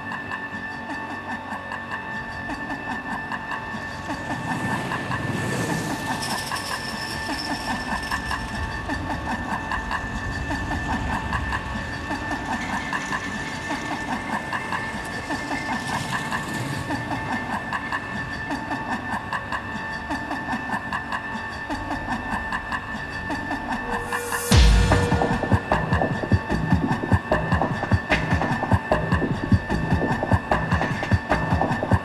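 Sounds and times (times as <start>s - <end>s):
background music with steady beat: 0.0s - 32.0s.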